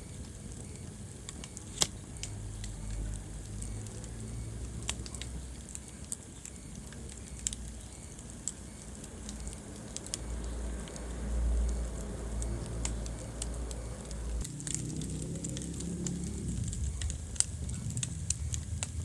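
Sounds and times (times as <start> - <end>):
fireplace fire crackling: 0.0 - 19.0
low rumble of flames: 0.0 - 19.0.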